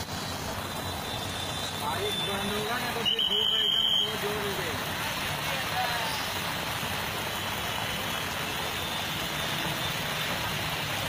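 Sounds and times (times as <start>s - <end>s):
heavy rain on a road: 0.0s - 11.0s.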